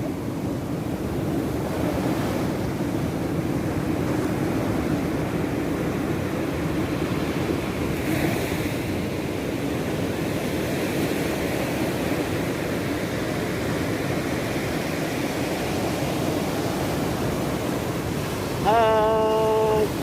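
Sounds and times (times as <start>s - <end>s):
sea surf washing onto shore: 0.0s - 20.0s.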